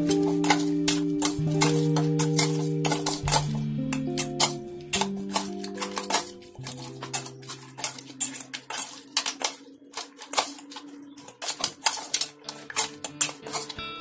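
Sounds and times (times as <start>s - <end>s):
faint background music: 0.0s - 14.0s
metal spoon scraping a pot: 0.0s - 14.0s.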